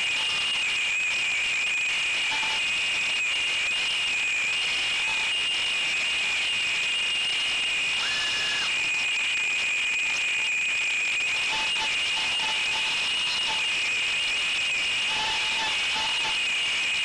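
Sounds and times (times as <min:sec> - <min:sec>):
drone motors high-pitched whine: 0:00.0 - 0:17.0.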